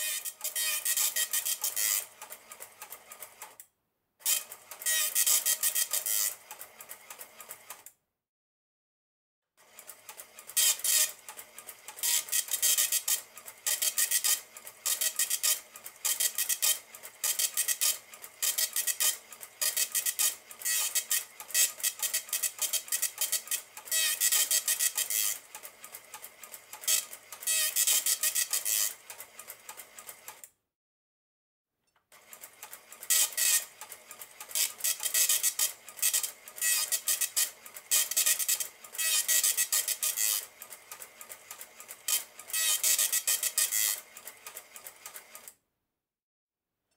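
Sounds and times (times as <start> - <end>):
dot-matrix printer buzzing: 0.0 - 3.6, 4.2 - 7.8, 9.6 - 30.4, 32.2 - 45.6.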